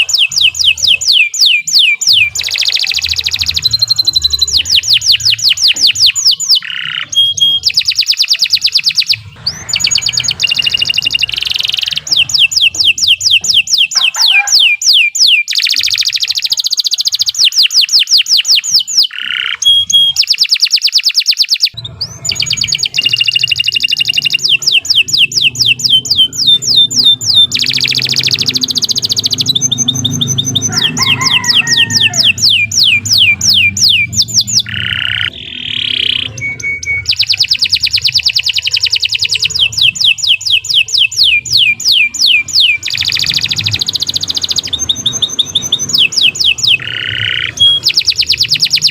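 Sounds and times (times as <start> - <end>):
canary singing high trills: 0.0 - 48.9.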